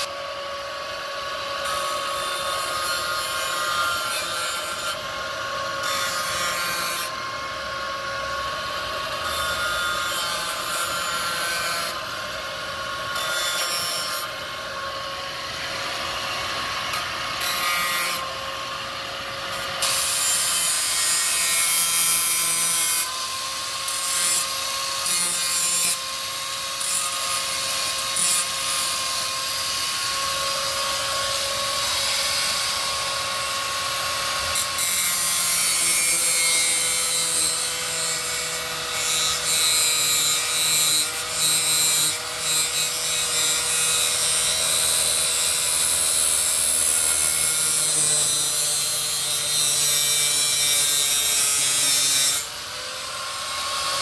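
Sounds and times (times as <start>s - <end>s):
angle grinder grinding metal: 0.0s - 54.0s.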